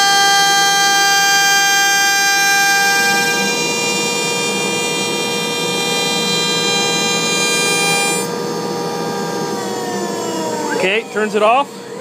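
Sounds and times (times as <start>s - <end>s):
router spindle high-pitched whine: 0.0s - 12.0s.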